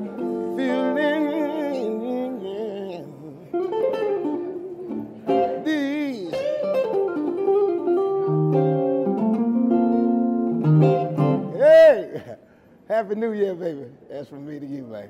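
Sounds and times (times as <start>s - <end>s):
electric guitar blues lead: 0.0s - 12.3s.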